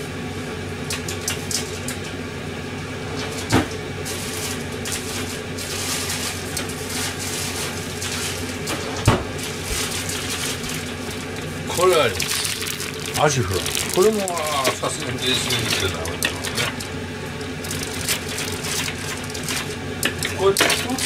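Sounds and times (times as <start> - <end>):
hot oil crackling: 0.0 - 21.0
kitchen appliance motor hum: 0.0 - 21.0.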